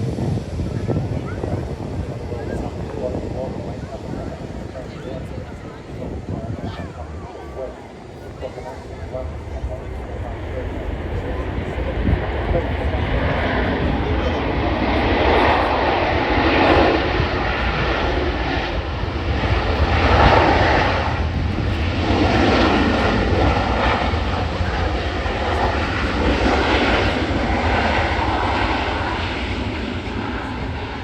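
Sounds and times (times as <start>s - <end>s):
jet engines rushing: 0.0s - 31.0s.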